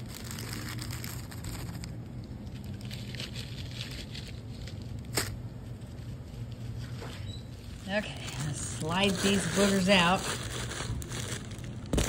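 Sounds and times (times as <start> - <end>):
packaging crinkling: 0.0 - 12.0
steady low hum: 0.0 - 12.0.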